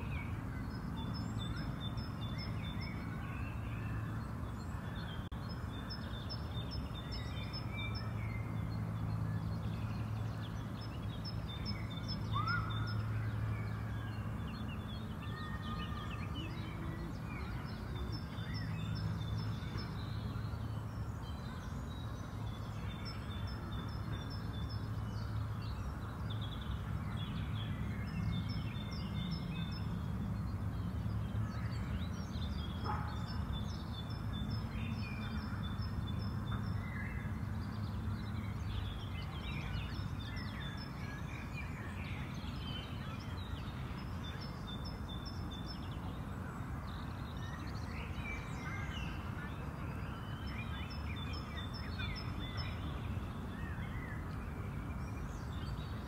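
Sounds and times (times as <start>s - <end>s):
low rumble of background noise: 0.0s - 56.0s
small birds chirping: 0.0s - 56.0s.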